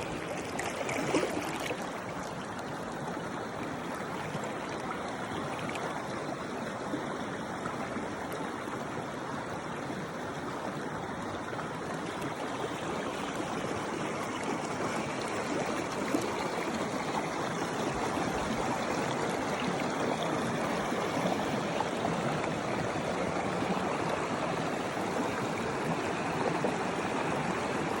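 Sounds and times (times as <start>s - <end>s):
stream water flowing: 0.0s - 28.0s.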